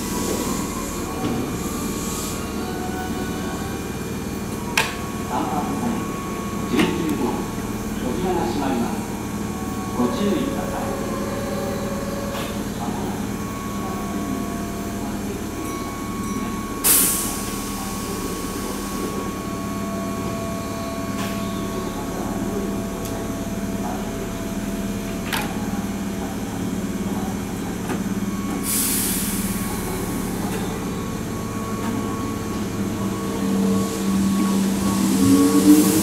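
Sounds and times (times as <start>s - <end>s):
train equipment humming: 0.0s - 36.0s.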